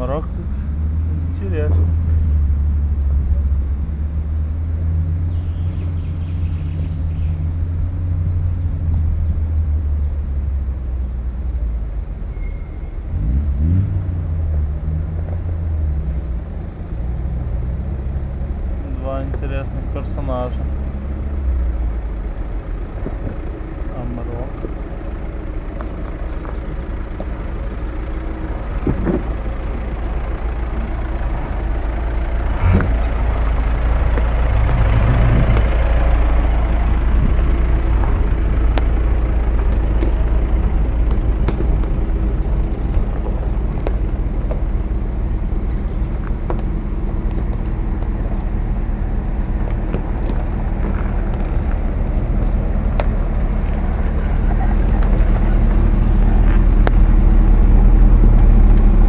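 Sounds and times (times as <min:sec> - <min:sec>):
engines at low revs: 0:00.0 - 0:59.0.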